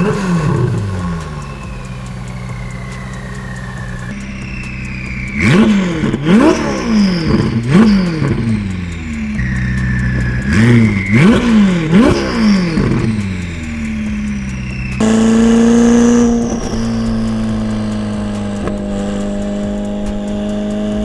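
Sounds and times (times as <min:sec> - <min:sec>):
car engine idling: 0:00.0 - 0:21.0
sharp engine revs: 0:00.0 - 0:21.0.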